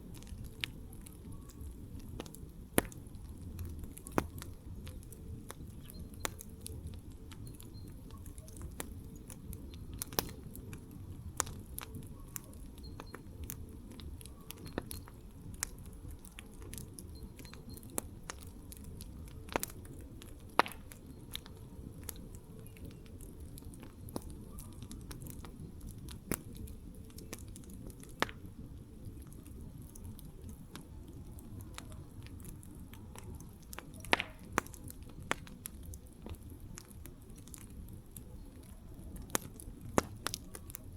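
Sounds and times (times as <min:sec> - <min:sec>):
campfire flames rumbling: 0:00.0 - 0:40.9
fire crackling and popping: 0:00.0 - 0:40.9.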